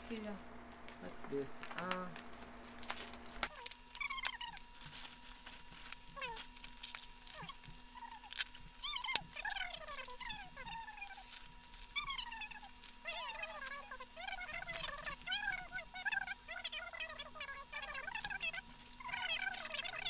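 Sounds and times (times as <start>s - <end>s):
bubble wrap crinkling: 0.1s - 20.0s.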